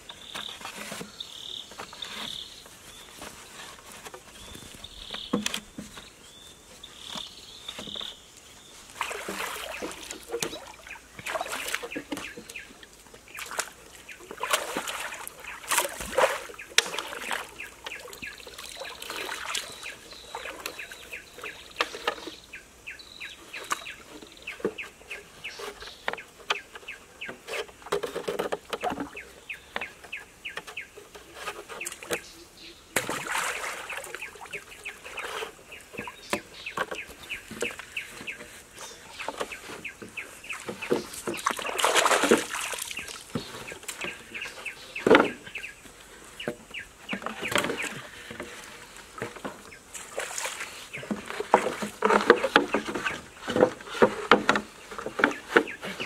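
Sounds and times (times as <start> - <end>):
high bird and insect chirps: 0.0 - 56.0
bamboo poles knocking together: 3.2 - 6.1, 9.0 - 22.4, 23.6 - 32.3, 34.0 - 56.0.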